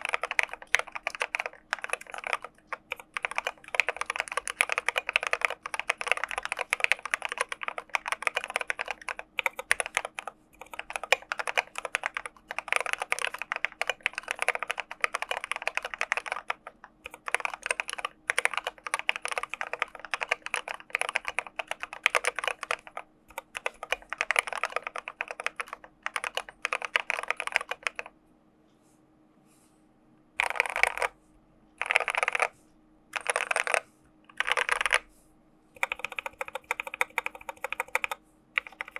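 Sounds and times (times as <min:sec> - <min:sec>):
mechanical keyboard typing: 0:00.0 - 0:28.1, 0:30.4 - 0:31.2, 0:31.8 - 0:32.6, 0:33.2 - 0:35.1, 0:35.8 - 0:38.9.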